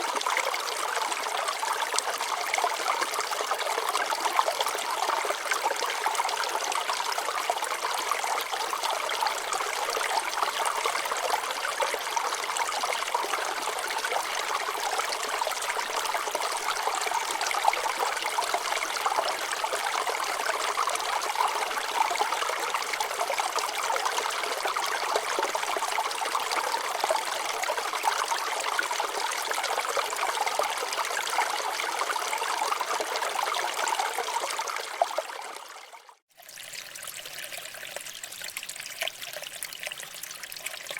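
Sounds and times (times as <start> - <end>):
stream babbling over rocks: 0.0 - 35.8.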